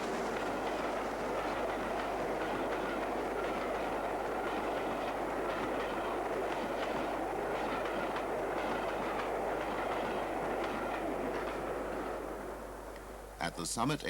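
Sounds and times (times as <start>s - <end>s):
steam locomotive exhaust and running: 0.0s - 14.0s.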